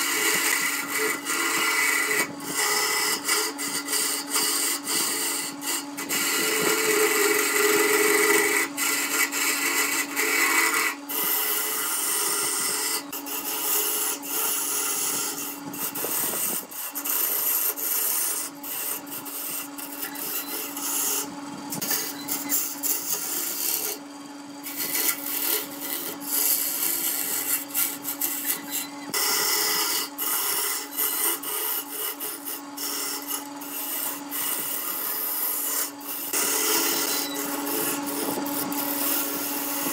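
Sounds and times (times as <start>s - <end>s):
tool scraping wood: 0.0s - 39.9s
wood lathe humming: 0.0s - 39.9s.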